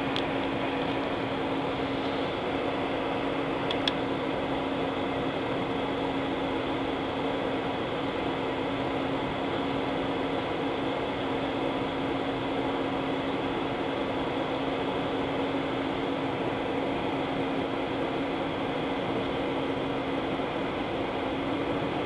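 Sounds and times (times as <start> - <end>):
jet engines at taxi power: 0.0 - 22.0
steady low hum: 0.0 - 22.0.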